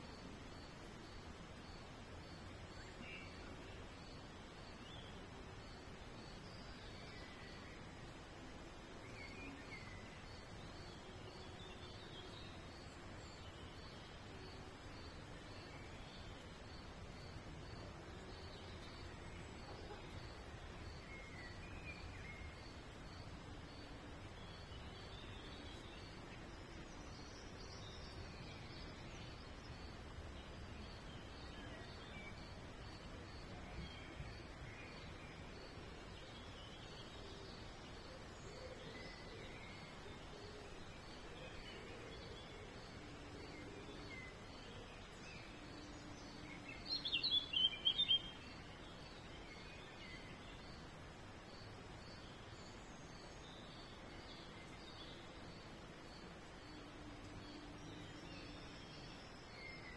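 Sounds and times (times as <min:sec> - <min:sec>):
faint birds chirping: 0:00.0 - 0:59.9
steady background hiss: 0:00.0 - 0:59.9.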